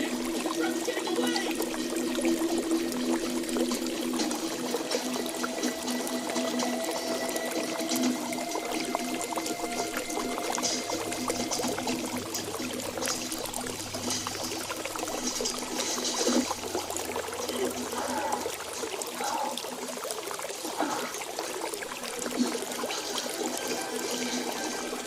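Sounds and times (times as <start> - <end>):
water trickling: 0.0 - 25.0.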